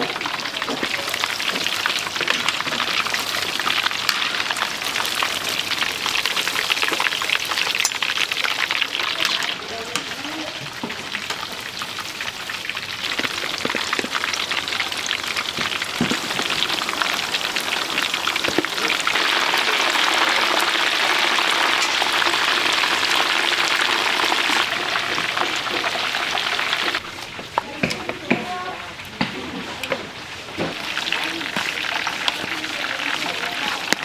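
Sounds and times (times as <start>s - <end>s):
chicken sizzling in hot oil: 0.0s - 27.6s, 30.5s - 34.0s.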